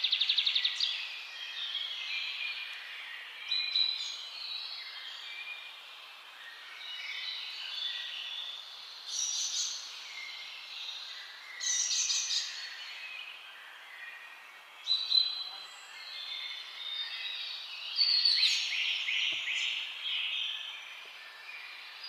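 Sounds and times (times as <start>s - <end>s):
birds chirping and trilling: 0.0s - 22.0s
steady outdoor hiss: 0.0s - 22.0s.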